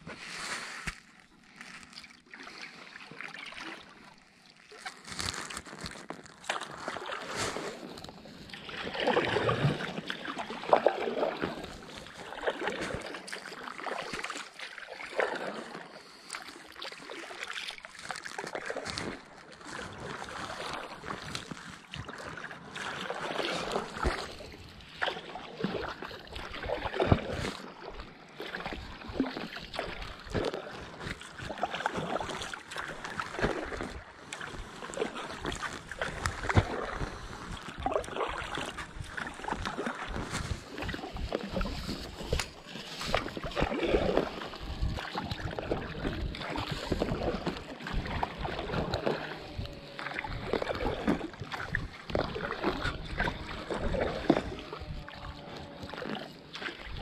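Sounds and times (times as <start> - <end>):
kayak paddle splashing in water: 0.0 - 57.0.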